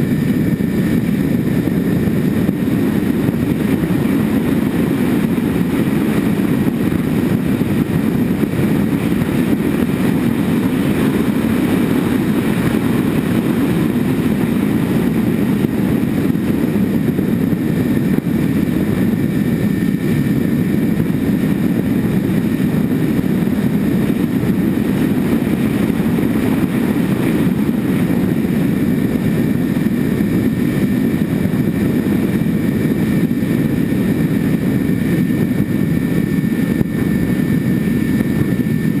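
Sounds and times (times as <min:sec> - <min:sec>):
model airplane propellers and motors: 0:00.0 - 0:39.0
wind rush: 0:00.0 - 0:39.0.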